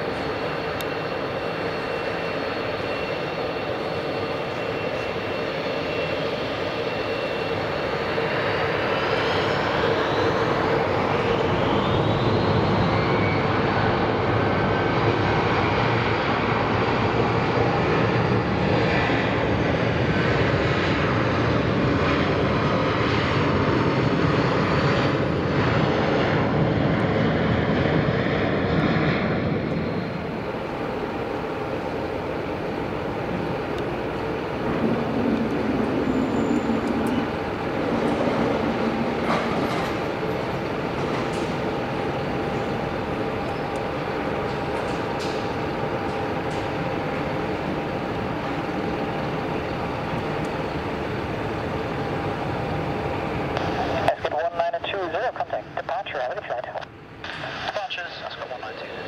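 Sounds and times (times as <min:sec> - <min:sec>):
jet engines whining and spooling up: 0:00.0 - 0:59.0.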